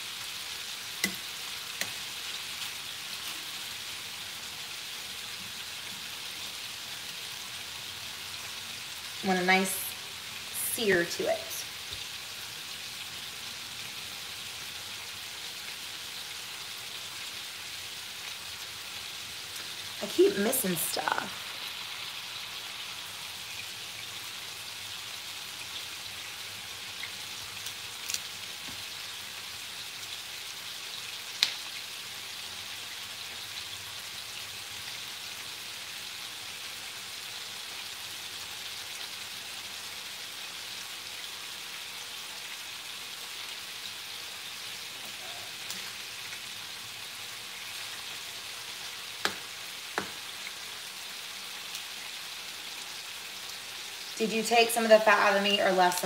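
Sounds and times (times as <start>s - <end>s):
meat sizzling in fat: 0.0s - 56.0s.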